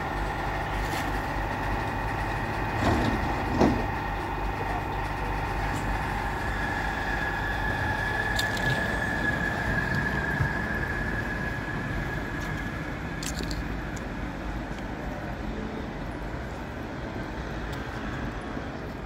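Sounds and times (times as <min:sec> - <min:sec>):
light-rail train running: 0:00.0 - 0:19.0
steady high whine: 0:00.0 - 0:19.0.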